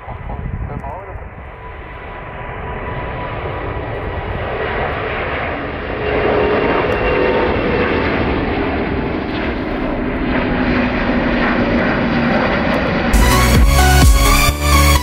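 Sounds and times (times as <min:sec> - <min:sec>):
jet engines rumbling: 0:00.0 - 0:14.9.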